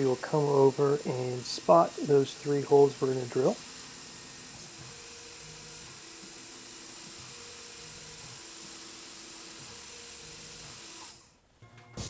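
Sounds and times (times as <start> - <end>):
milling machine spindle hiss: 0.0 - 11.4.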